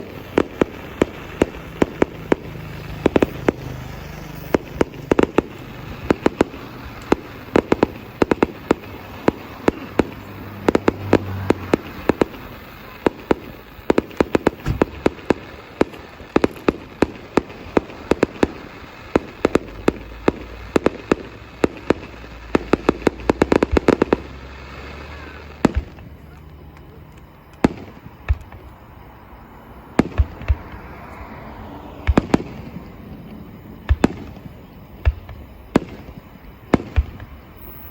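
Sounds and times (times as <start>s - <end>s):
fireworks bangs: 0.0s - 37.9s.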